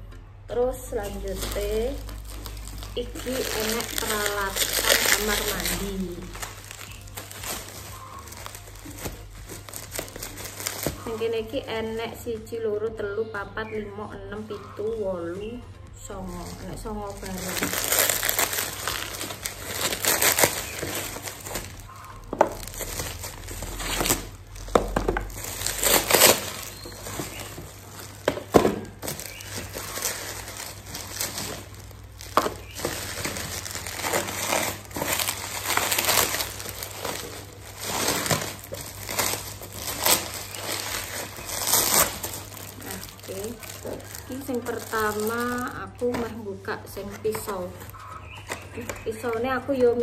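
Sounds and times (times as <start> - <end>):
plastic packaging crinkling: 0.8 - 12.2, 16.1 - 50.0.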